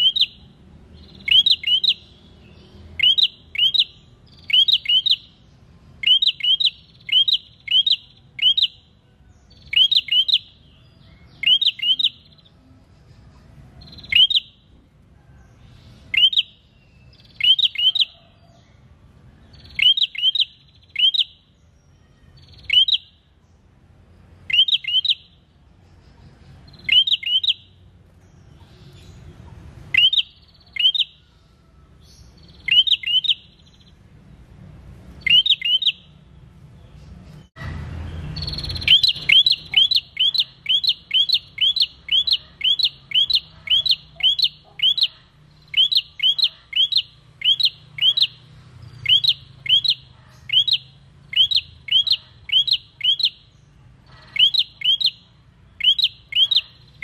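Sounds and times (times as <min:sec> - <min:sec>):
caged bird chip notes: 0:00.0 - 0:57.0
rush of background noise: 0:00.0 - 0:57.0.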